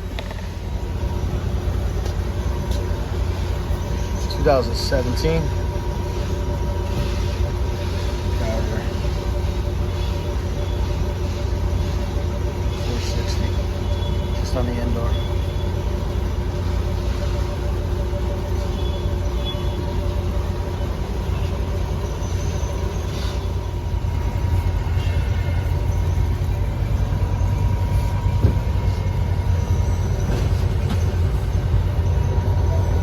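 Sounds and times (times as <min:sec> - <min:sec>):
air handler humming: 0:00.0 - 0:33.0.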